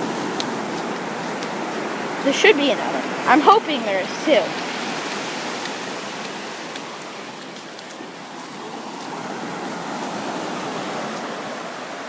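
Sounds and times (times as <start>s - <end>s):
ocean surf washing onto beach: 0.0s - 12.0s.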